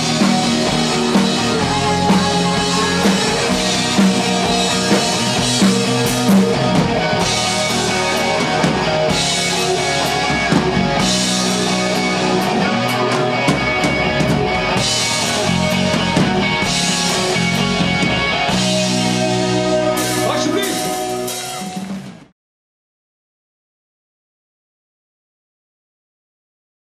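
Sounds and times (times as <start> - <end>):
rock band playing: 0.0 - 22.3.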